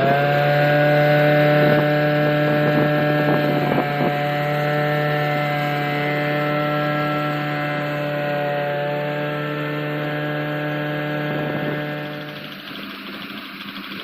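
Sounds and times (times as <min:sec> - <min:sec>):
harvester engine running: 0:00.0 - 0:14.0.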